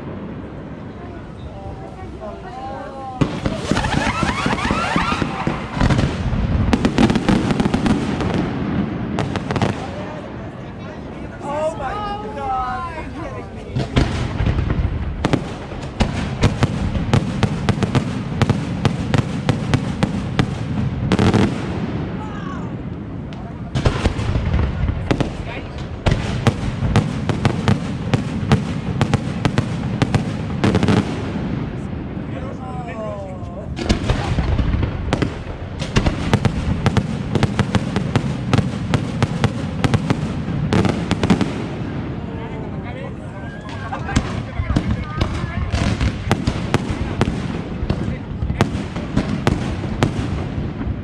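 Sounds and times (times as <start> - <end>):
fireworks bangs: 0.0 - 10.5, 13.6 - 32.6, 33.7 - 42.9, 43.6 - 51.0.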